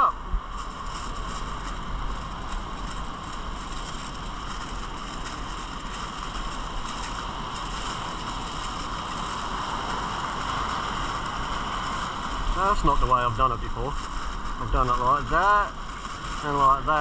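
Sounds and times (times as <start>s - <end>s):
aluminium foil crinkling: 0.5s - 17.0s.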